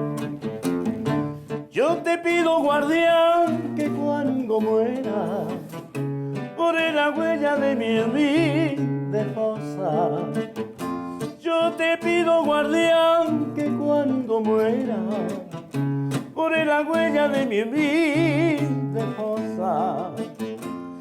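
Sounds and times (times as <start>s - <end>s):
acoustic guitar: 0.0s - 21.0s
person singing with vibrato: 1.5s - 20.5s.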